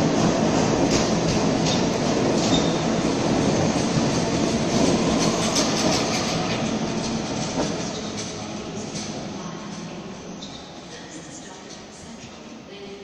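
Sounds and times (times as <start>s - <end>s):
train wheels clattering on rails: 0.0s - 10.6s.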